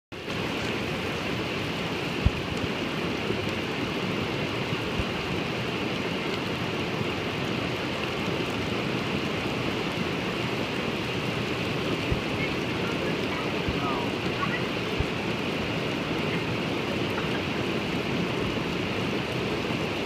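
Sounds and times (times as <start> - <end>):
heavy rain pouring: 0.1 - 20.0.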